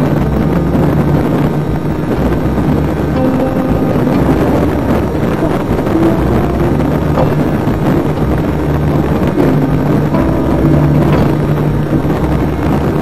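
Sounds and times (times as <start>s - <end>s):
wind buffeting on microphone: 0.0s - 13.0s.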